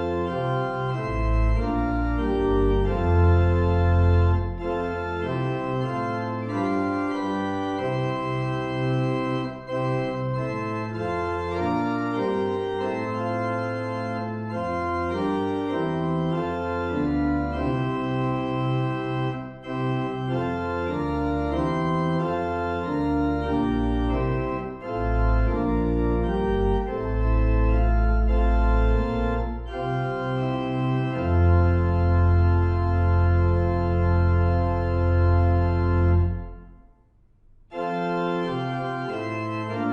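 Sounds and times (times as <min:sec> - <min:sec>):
deep organ bass notes: 0:00.0 - 0:36.9, 0:37.7 - 0:39.9
organ playing hymn chords: 0:00.0 - 0:37.0, 0:37.7 - 0:39.9.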